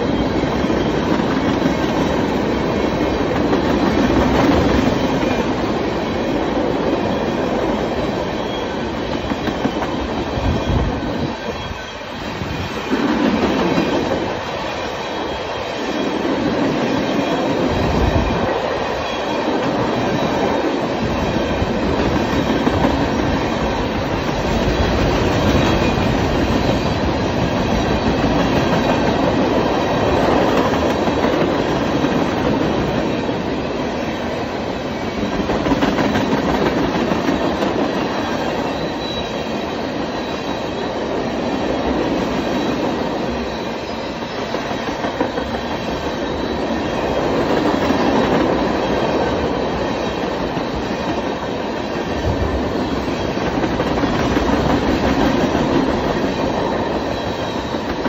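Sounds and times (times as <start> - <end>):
train wheels rolling on rails: 0.0 - 58.0.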